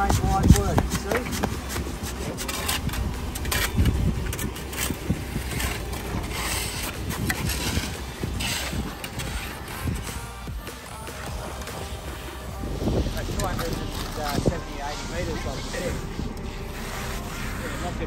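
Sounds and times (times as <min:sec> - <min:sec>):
low steady rumble: 0:00.0 - 0:18.0
tools scraping wet concrete: 0:00.0 - 0:18.0.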